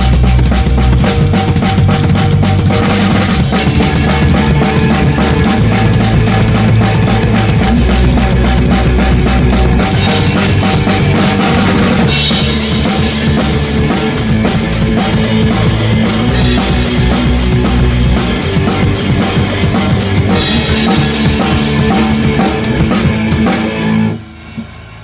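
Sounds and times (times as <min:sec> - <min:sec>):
drum kit beat: 0:00.0 - 0:24.8
loud rock music: 0:00.0 - 0:25.0.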